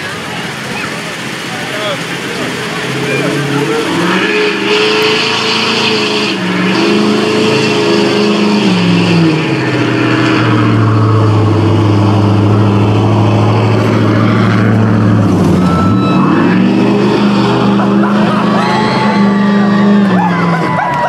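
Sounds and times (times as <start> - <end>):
pickup engine running hard: 0.0 - 21.0.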